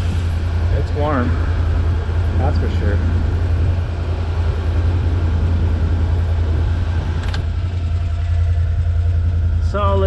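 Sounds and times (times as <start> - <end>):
heater blower fan rushing: 0.0 - 10.0
vehicle engine idling: 0.0 - 10.0.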